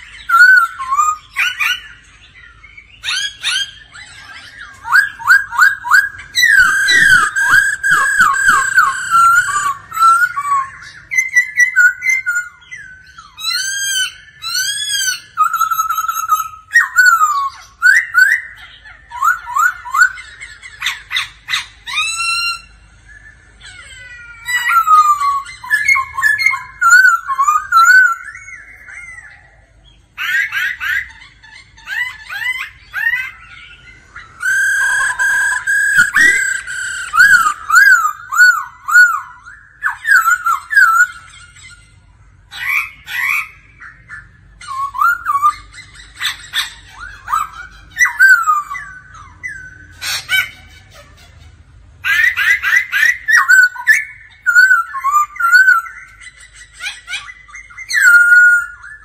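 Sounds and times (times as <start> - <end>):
bird singing whistled phrases: 0.0 - 23.8, 24.4 - 29.6, 31.9 - 41.8, 42.5 - 50.5, 52.1 - 59.0.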